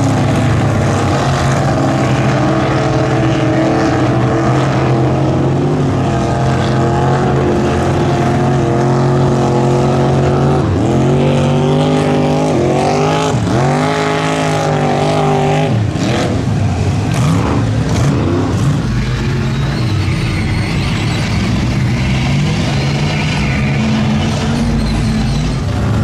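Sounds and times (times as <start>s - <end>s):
tires throwing mud and water: 0.0s - 26.0s
truck engine revving hard: 0.0s - 26.0s.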